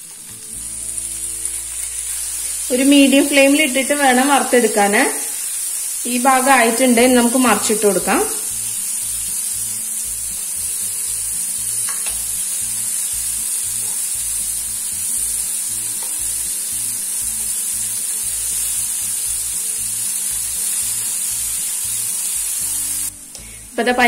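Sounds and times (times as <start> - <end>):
paneer sizzling in oil: 0.0 - 24.0.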